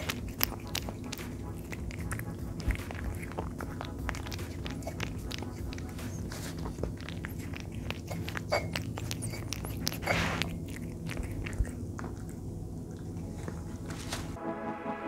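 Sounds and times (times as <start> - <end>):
cat chewing and lapping food: 0.0 - 14.4.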